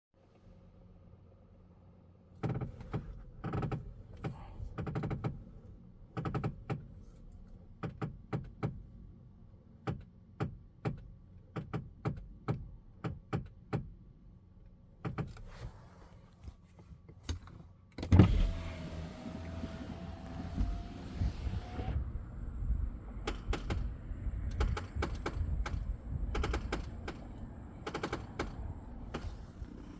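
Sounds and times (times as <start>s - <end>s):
steering clicking and knocking: 2.4s - 9.1s, 9.8s - 14.1s, 15.0s - 15.5s, 17.0s - 29.9s.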